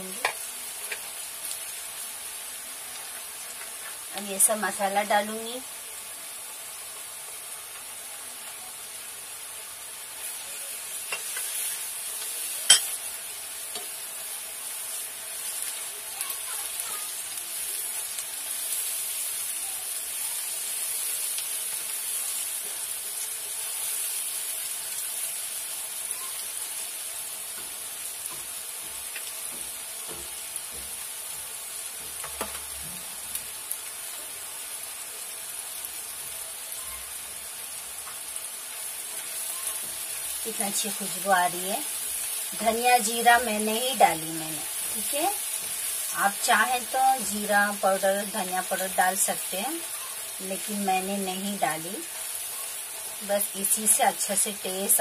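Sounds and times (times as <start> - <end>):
food sizzling in oil: 0.0 - 55.0.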